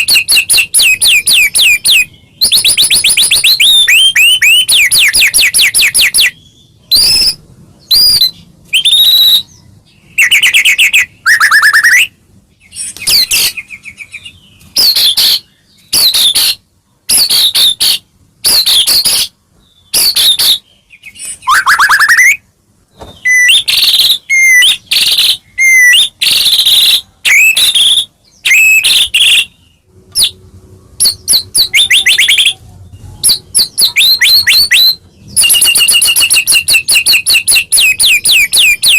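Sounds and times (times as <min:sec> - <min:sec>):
songbird singing trills and whistles: 0:00.0 - 0:38.9.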